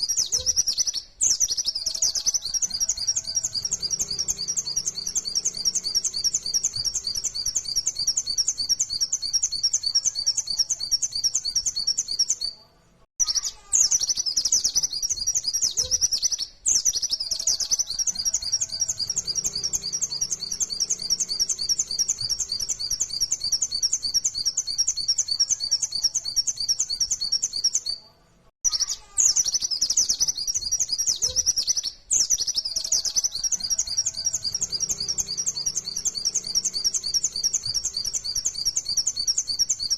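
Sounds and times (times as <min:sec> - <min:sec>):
bird singing rapid high notes: 0:00.0 - 0:12.6, 0:13.2 - 0:28.0, 0:28.6 - 0:39.9.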